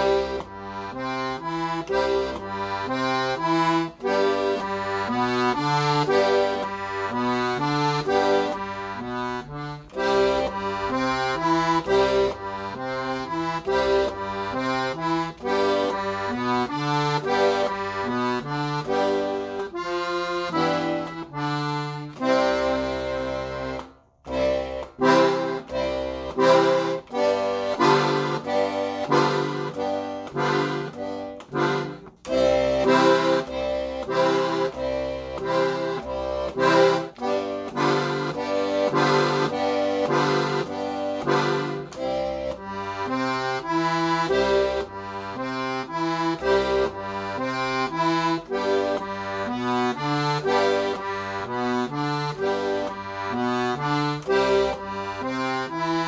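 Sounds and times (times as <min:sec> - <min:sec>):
button accordion playing lively melody: 0:00.0 - 0:56.0.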